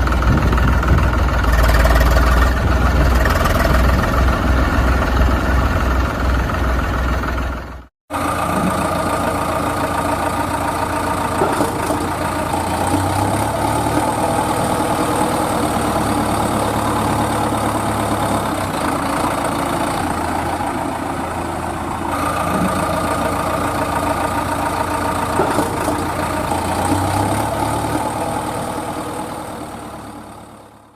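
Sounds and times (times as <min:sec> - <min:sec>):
tractor engine idling: 0:00.0 - 0:30.9.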